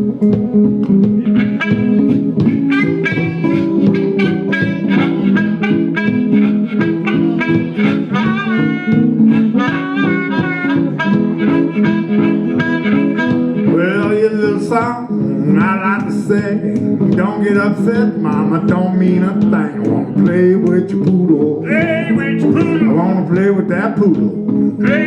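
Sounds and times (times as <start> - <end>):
blues harmonica: 0.0 - 23.6, 24.4 - 25.0
picked guitar: 0.0 - 25.0.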